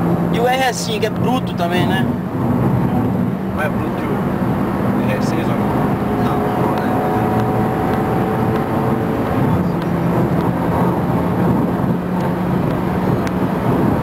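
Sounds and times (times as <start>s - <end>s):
car engine drone from inside: 0.0s - 14.0s
road noise: 0.0s - 14.0s.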